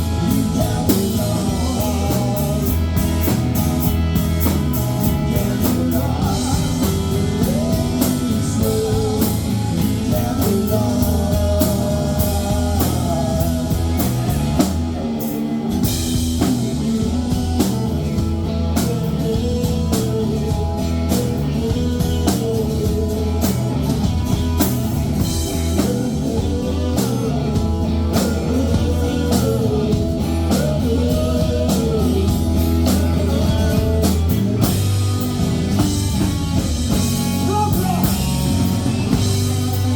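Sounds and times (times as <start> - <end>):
person singing: 0.0 - 3.5, 4.5 - 15.3, 16.2 - 24.1, 25.4 - 35.0, 36.9 - 39.9
drum kit beat: 0.0 - 39.9
electric guitar: 0.0 - 39.9.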